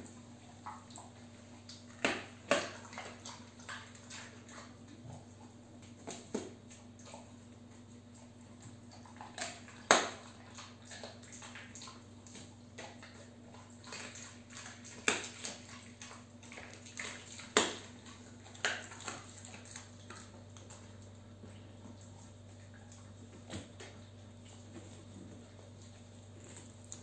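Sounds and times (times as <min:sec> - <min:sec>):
dog crunching a hard chew: 0:00.6 - 0:27.0.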